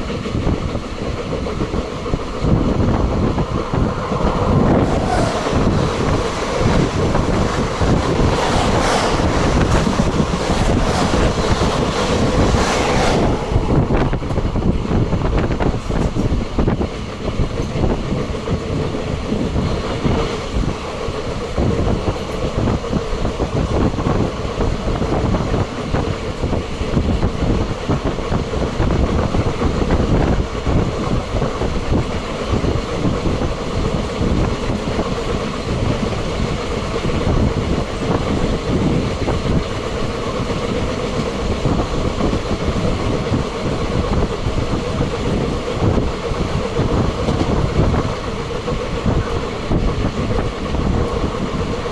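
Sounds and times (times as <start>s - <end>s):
train rumble: 0.0s - 51.9s.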